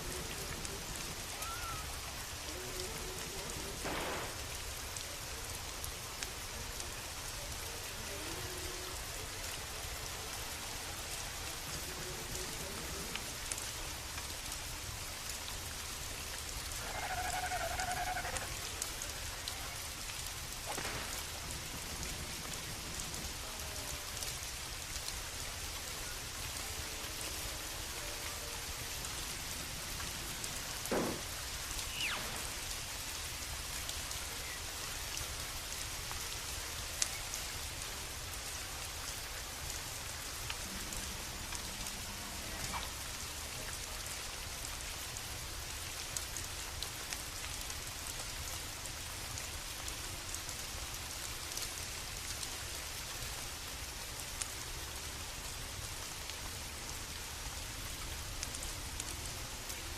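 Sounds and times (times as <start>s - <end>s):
rain falling: 0.0s - 59.9s
wood fire crackling: 0.0s - 59.9s.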